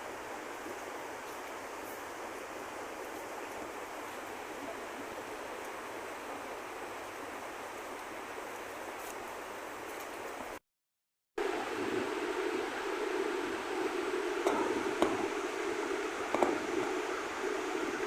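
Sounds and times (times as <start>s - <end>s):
running water in a creek: 0.0s - 10.6s, 11.4s - 18.0s.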